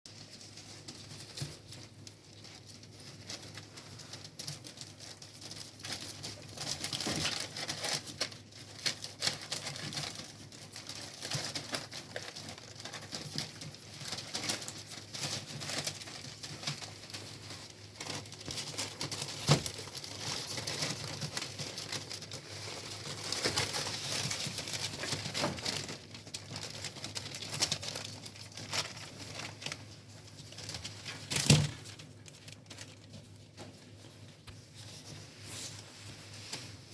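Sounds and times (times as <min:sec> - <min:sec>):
rustling and crinkling: 0:00.0 - 0:36.9
puppies moving about: 0:00.1 - 0:36.7.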